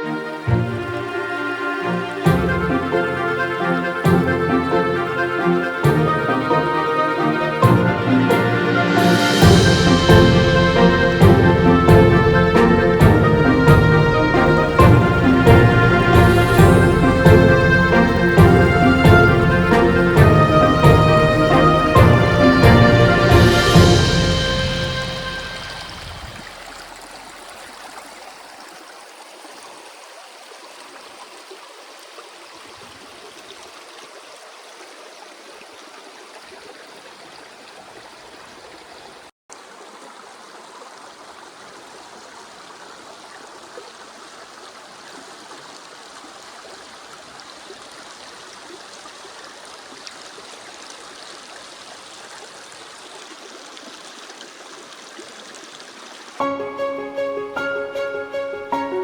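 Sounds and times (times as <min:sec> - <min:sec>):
running water flowing: 0:00.0 - 0:59.0.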